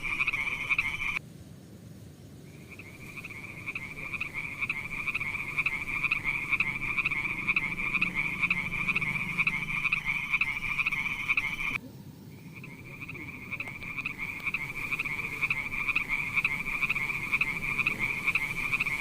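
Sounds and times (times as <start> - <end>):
frogs croaking in chorus: 0.0 - 1.2, 2.4 - 19.0.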